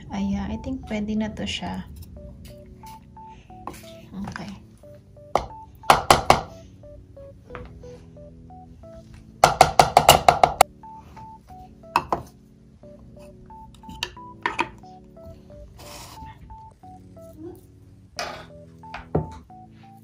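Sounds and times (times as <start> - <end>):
soft plucked background music: 0.0 - 20.0.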